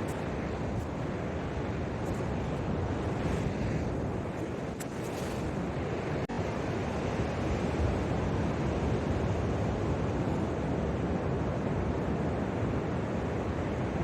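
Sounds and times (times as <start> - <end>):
ocean surf on a beach: 0.0 - 14.0
wind buffeting microphone: 0.0 - 14.0.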